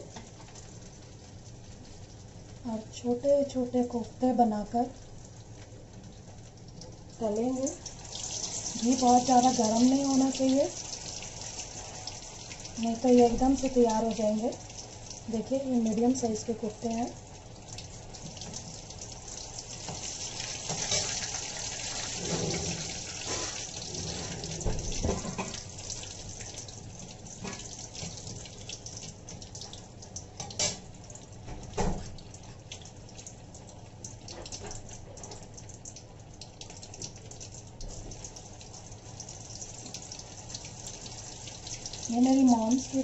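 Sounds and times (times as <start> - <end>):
food sizzling and crackling in oil: 0.0 - 43.0.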